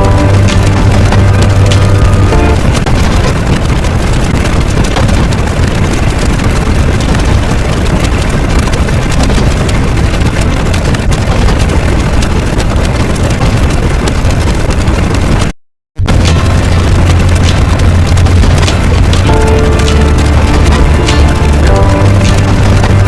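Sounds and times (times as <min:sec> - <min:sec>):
loud steady rushing noise: 0:00.0 - 0:23.0.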